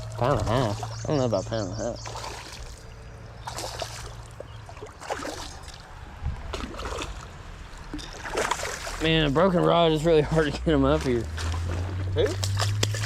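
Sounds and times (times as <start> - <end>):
creek water running: 0.0 - 13.0
water splashes: 0.0 - 13.0.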